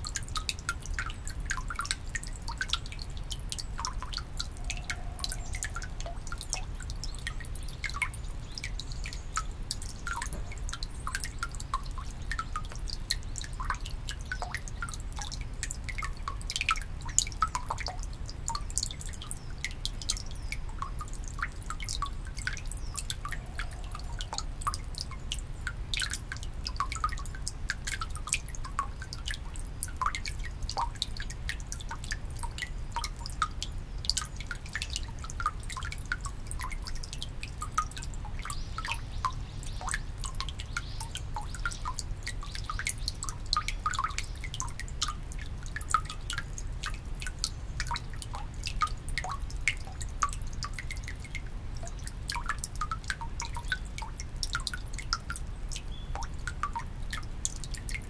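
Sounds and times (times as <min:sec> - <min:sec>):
water dripping into stone basin: 0:00.0 - 0:58.0.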